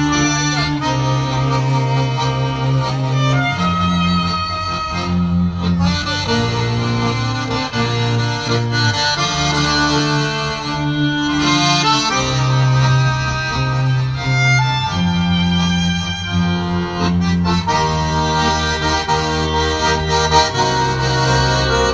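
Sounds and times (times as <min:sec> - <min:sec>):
small ensemble instrumental music: 0:00.0 - 0:21.9.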